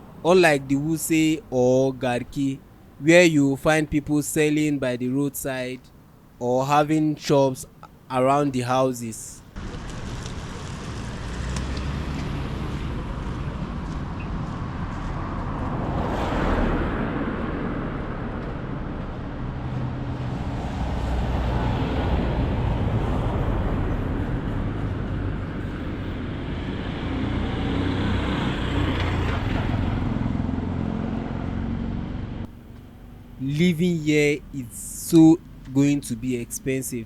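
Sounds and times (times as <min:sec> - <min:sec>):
cars passing on street: 0:00.0 - 0:37.0.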